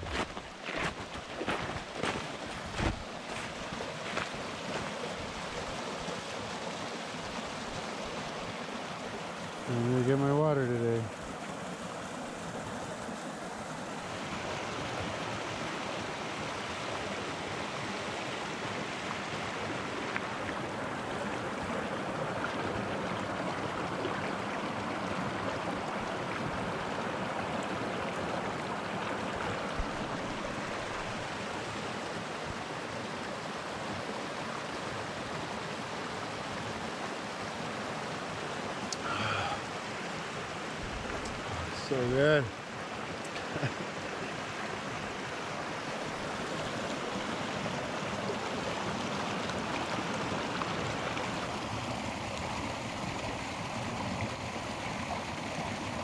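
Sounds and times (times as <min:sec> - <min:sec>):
rushing mountain stream: 0:00.0 - 0:56.0.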